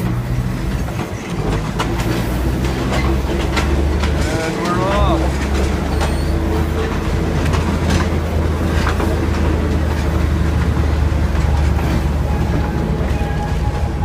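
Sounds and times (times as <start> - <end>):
railcar engine rumble: 0.0 - 14.0
wheels on rails: 0.0 - 14.0.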